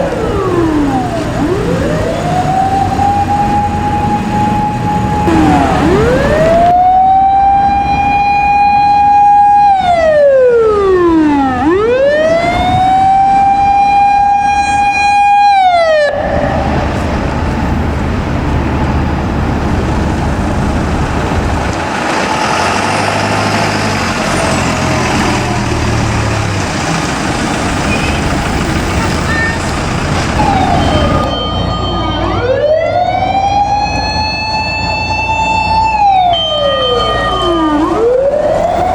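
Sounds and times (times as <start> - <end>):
fire engine sirens wailing: 0.0 - 38.9
road noise: 0.0 - 38.9
truck engine: 0.0 - 38.9.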